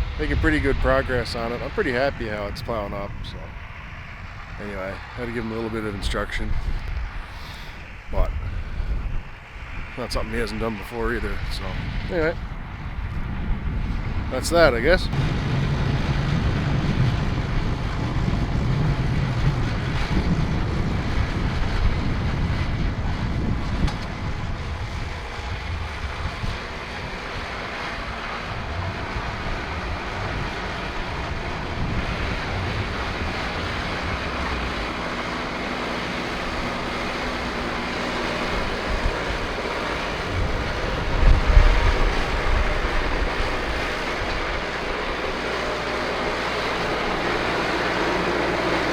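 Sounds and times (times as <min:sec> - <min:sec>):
tractor engine working: 0:00.0 - 0:48.9
wind buffeting microphone: 0:00.0 - 0:48.9.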